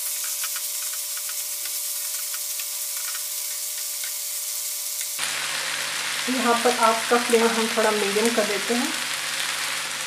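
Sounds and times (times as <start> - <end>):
masala sizzling in oil: 0.0 - 10.0.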